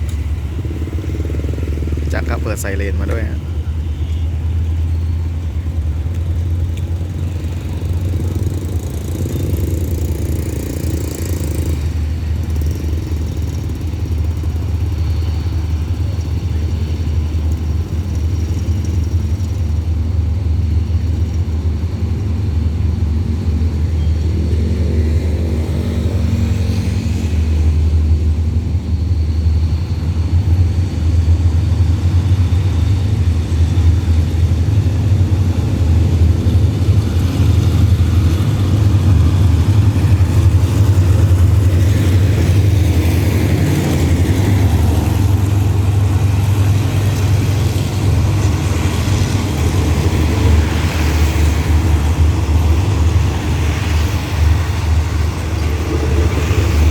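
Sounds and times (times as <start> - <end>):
diesel locomotive engine rumbling: 0.0 - 56.9.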